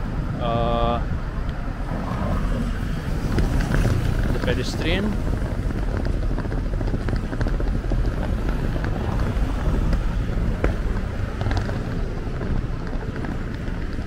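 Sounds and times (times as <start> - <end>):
traffic rumble: 0.0 - 14.0
wind buffeting microphone: 0.0 - 14.0.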